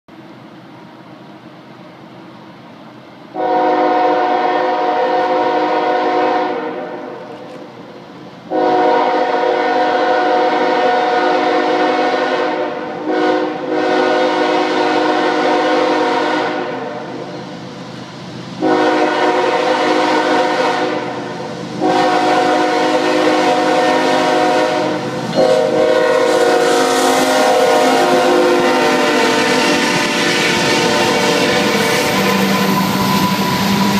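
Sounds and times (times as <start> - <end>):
train engine and wheel noise: 0.1 - 33.9
locomotive air horn blasts: 3.4 - 7.4, 8.5 - 17.2, 18.6 - 33.9.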